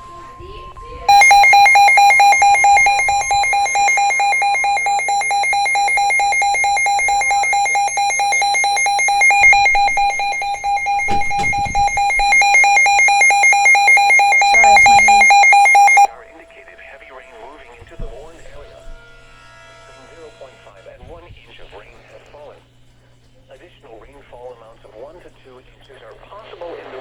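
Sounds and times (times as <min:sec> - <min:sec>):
harsh two-tone alarm: 0:00.0 - 0:22.3.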